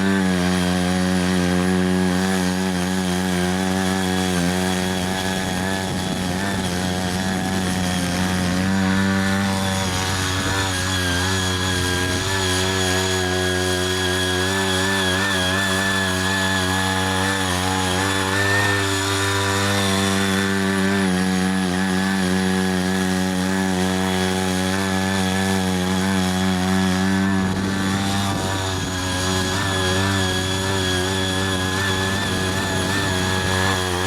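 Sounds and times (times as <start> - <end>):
tractor engine tilling: 0.0 - 34.0.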